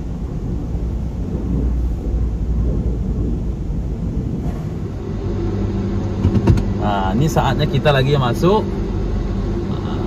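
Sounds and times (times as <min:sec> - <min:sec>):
car wash water jets spraying: 0:00.0 - 0:10.0.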